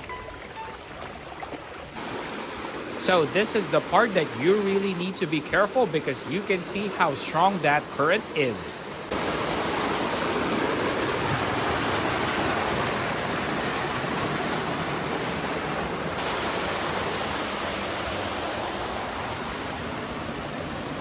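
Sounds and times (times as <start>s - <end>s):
water rushing through canal: 0.0s - 21.0s.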